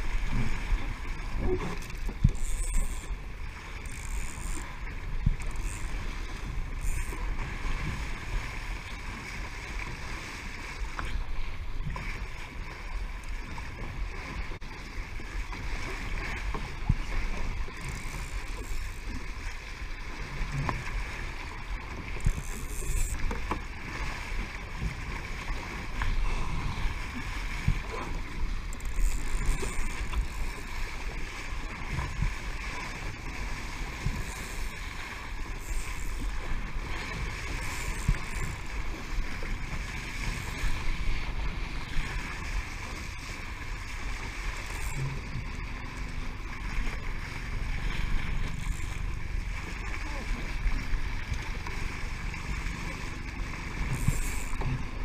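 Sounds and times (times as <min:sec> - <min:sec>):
water rushing along boat hull: 0:00.0 - 0:55.0.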